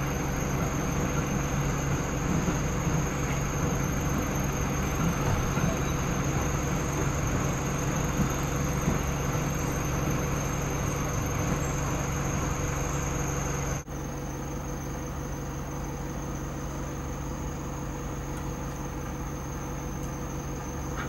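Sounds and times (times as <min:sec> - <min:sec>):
low engine hum: 0:00.0 - 0:21.0
train rolling rumble: 0:00.0 - 0:21.0
vehicle engine idling: 0:00.0 - 0:21.0.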